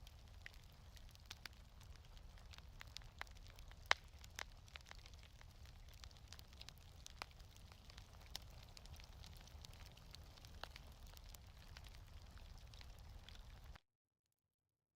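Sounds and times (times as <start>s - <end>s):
fireplace fire crackling: 0.0s - 13.8s.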